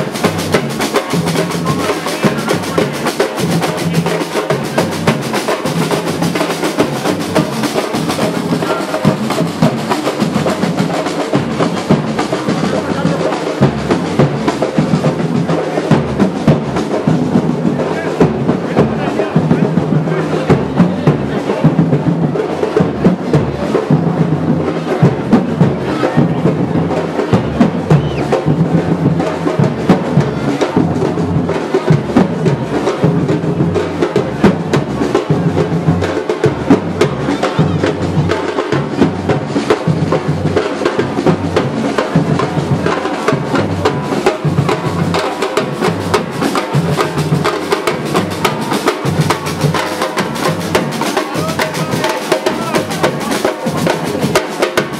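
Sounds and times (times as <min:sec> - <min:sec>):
loud rapid drumming: 0:00.0 - 0:54.9.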